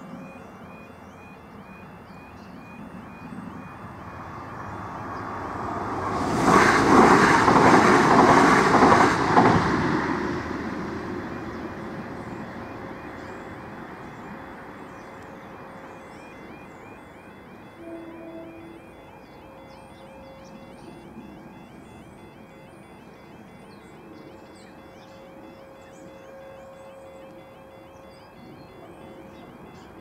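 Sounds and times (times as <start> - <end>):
crossing warning alarm: 0.0 - 30.0
train passing on tracks: 0.0 - 30.0.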